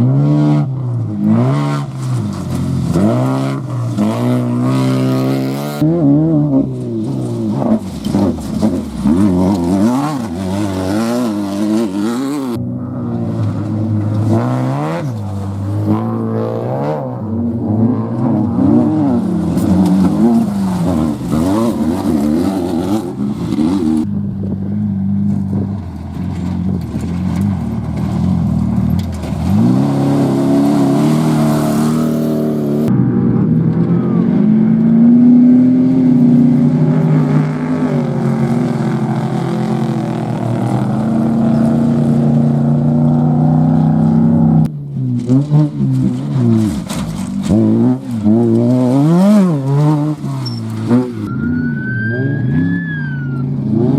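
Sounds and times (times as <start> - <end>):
off-road engines revving: 0.0 - 53.9.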